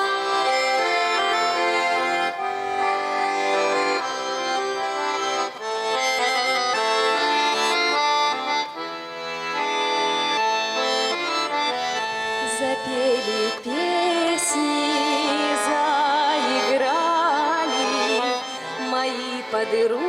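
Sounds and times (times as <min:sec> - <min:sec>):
accordion playing folk melody: 0:00.0 - 0:20.0.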